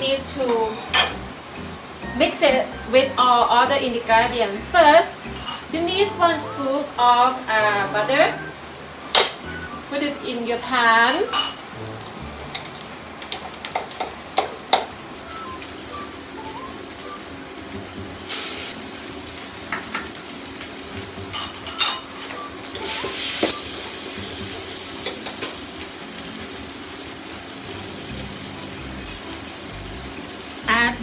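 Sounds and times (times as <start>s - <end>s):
butter sizzling in frying pan: 0.0s - 31.0s.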